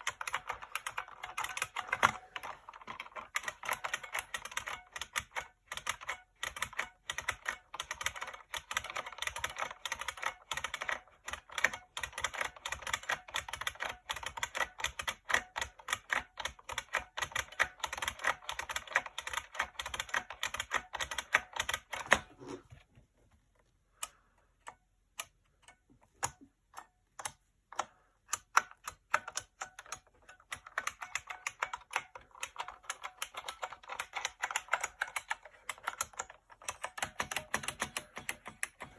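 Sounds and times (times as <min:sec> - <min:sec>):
keyboard keys clicking: 0:00.0 - 0:22.3, 0:27.2 - 0:38.9.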